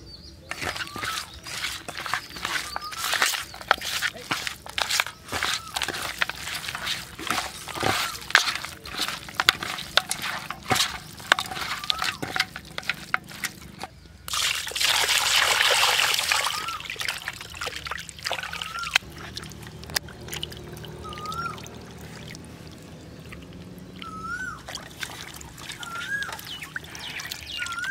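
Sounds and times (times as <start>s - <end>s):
meat squelching kneaded by hand: 0.5s - 27.9s
water pouring from bucket: 0.5s - 27.9s
water sloshing: 0.5s - 27.9s.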